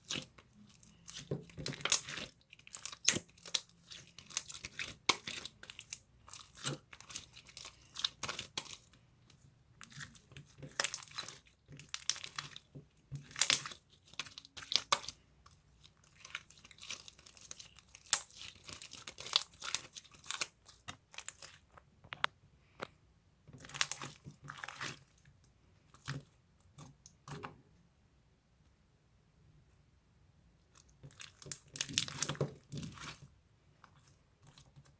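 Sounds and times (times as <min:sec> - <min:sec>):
crunching and crinkling: 0:00.0 - 0:27.5, 0:30.8 - 0:34.9.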